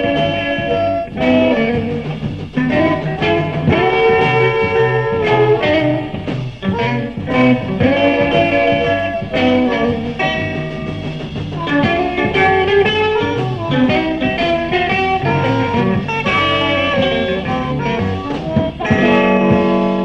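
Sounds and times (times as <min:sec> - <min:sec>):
electric blues band playing: 0:00.0 - 0:20.0
lead guitar: 0:00.0 - 0:20.0.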